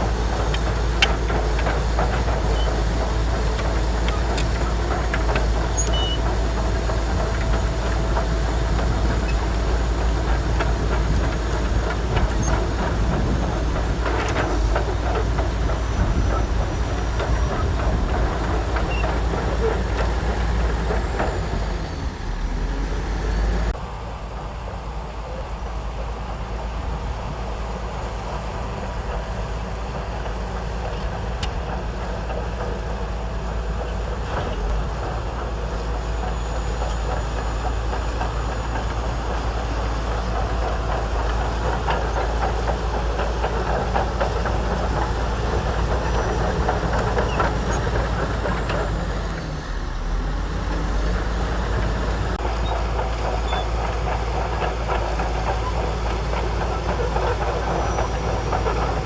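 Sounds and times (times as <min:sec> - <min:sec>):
metallic clanks of tracks: 0:00.0 - 0:22.3, 0:25.0 - 0:59.0
bulldozer diesel engine running: 0:00.0 - 0:59.0.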